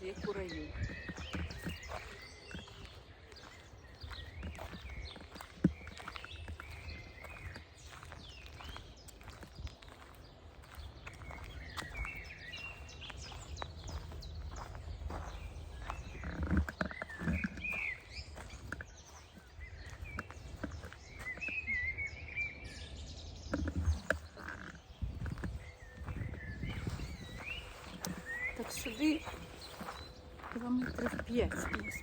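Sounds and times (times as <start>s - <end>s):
songbirds warbling: 0.0s - 32.0s.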